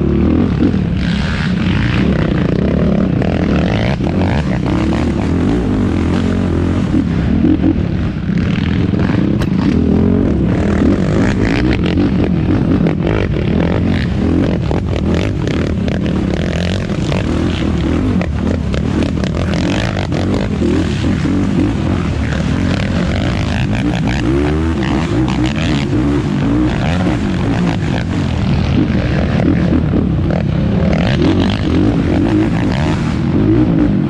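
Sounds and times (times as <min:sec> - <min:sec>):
quad engine running hard: 0:00.0 - 0:34.0.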